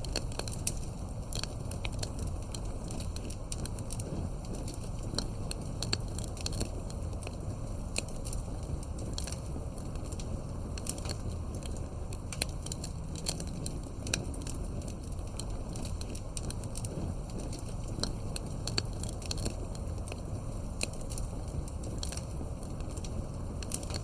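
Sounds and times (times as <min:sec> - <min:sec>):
campfire pops and snaps: 0:00.0 - 0:24.0
low rumble of burning fire: 0:00.0 - 0:24.0.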